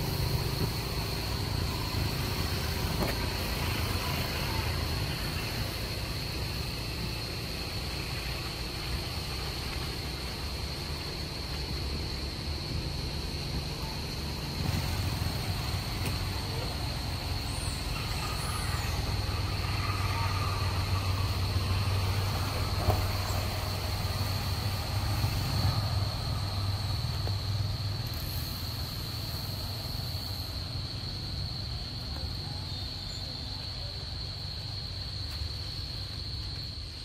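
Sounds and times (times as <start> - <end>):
high insect drone: 0.0 - 37.0
low engine-like rumble: 0.0 - 37.0.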